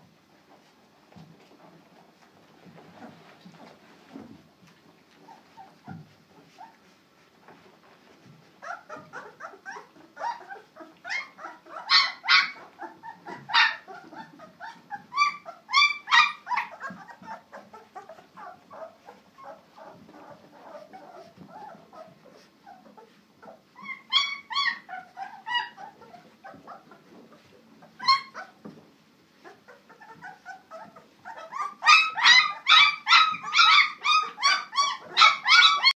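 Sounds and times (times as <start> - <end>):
puppies whimpering and squealing: 5.1 - 35.9.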